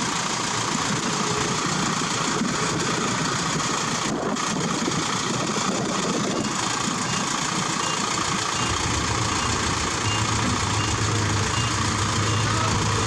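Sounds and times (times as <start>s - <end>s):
diesel engines of heavy machinery: 0.0s - 13.0s.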